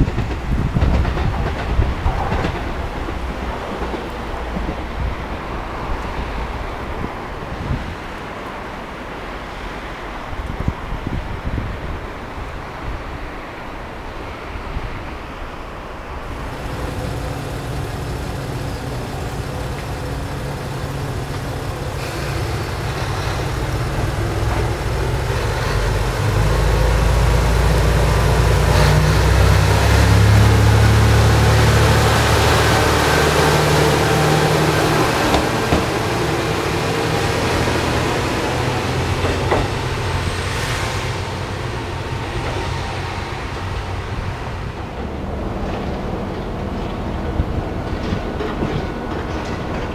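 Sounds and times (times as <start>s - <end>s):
diesel railcar engine rumbling: 0.0s - 12.8s, 13.4s - 49.9s.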